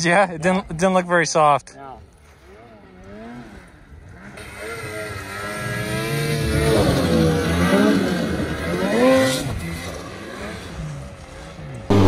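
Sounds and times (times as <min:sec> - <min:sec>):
snowmobile engine revving: 0:02.2 - 0:12.0.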